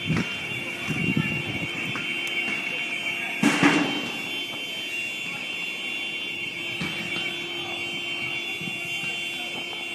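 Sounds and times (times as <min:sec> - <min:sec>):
alarm high-pitched tone: 0:00.0 - 0:09.9.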